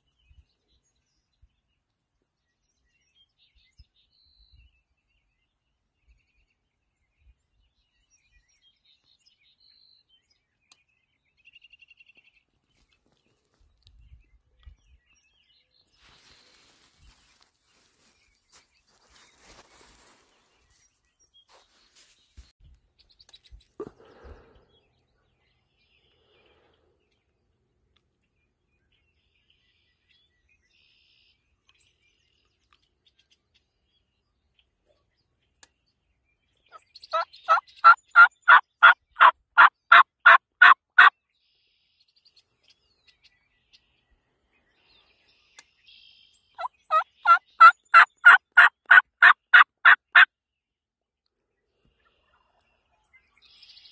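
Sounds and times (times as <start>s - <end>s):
songbird chirps: 0.0s - 53.9s.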